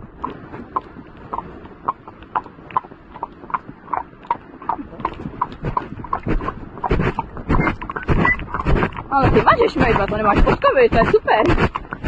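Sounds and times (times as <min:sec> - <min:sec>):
horse hooves clip-clopping on asphalt: 0:00.0 - 0:12.0.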